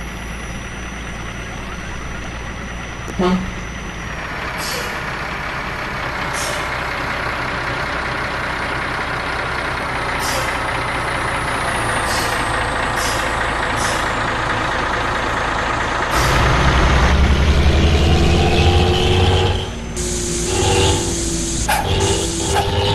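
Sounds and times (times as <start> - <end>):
bus engine growling: 0.0 - 22.9.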